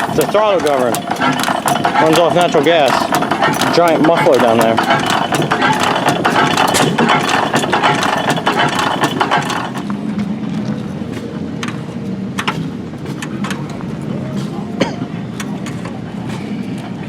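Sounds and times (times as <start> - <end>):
mechanical clicking and clatter: 0.0 - 17.0
old gas engines running: 0.0 - 17.0.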